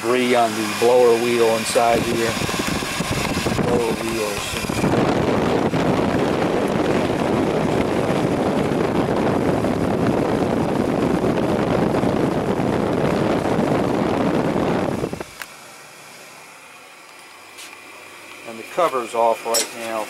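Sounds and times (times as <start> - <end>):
toilet blower rushing air: 0.0 - 20.0.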